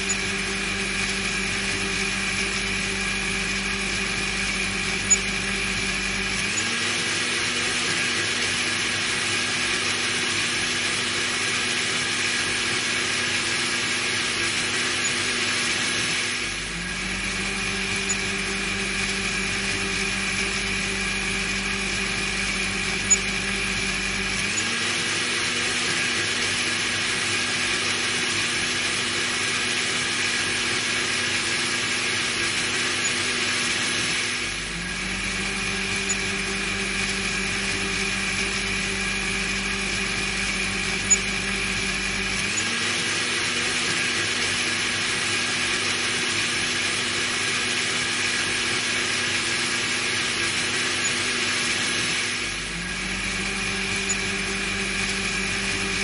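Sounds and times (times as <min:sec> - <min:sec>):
blender motor whirring: 0:00.0 - 0:56.0.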